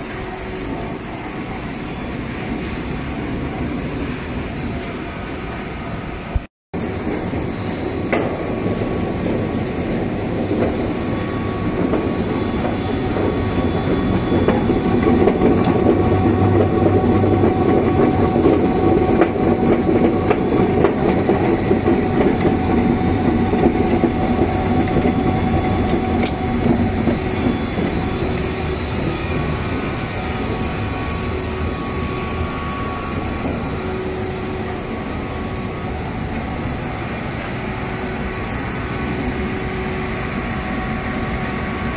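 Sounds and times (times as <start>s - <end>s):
machinery rumble and rattle: 0.0s - 41.9s.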